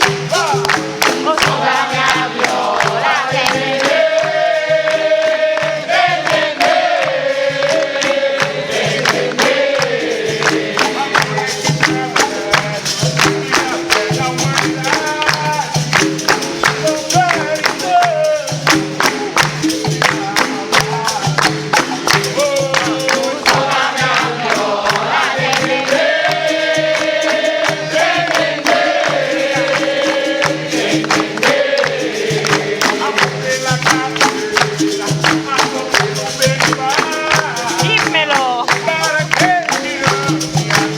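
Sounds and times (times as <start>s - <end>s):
hand percussion strikes: 0.0s - 40.9s
voices singing together: 0.0s - 40.9s.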